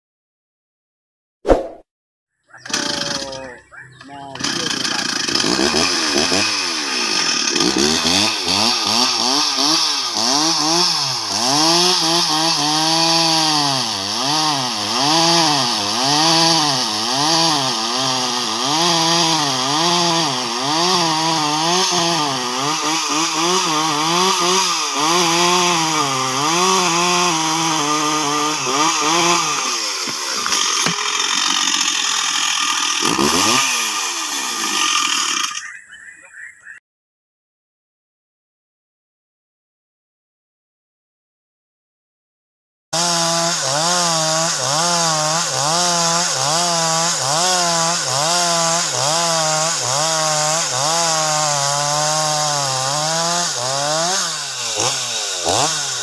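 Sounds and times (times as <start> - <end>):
chainsaw cutting a log: 2.6 - 35.8, 43.0 - 56.0.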